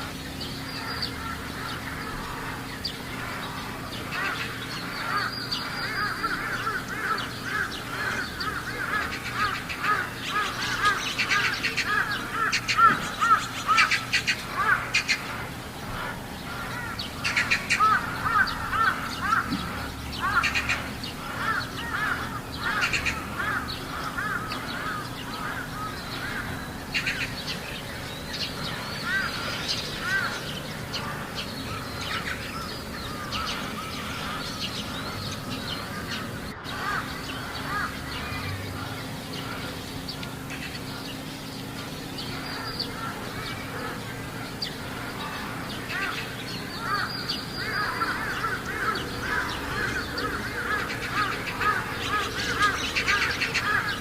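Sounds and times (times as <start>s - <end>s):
crows cawing: 0.0s - 54.0s.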